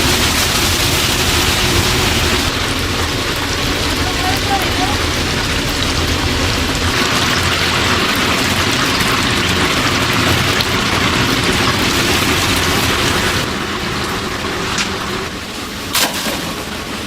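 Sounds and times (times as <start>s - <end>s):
chicken deep-frying in hot oil: 0.0s - 17.0s
small oil crackles: 0.0s - 17.0s.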